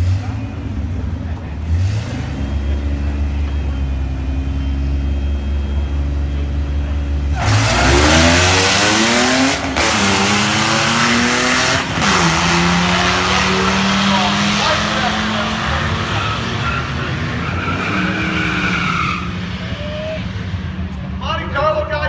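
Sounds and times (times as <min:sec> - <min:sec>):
drag racing cars revving: 0:00.0 - 0:22.0.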